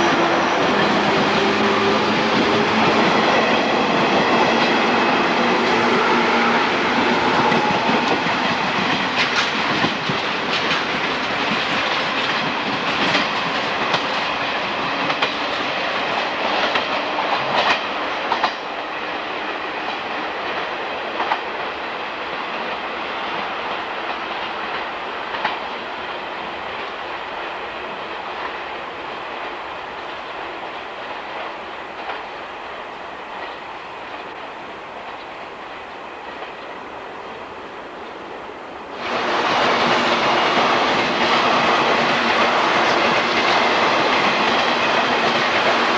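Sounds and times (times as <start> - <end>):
train wheels clicking over rail joints: 0.0 - 38.3, 38.9 - 45.9.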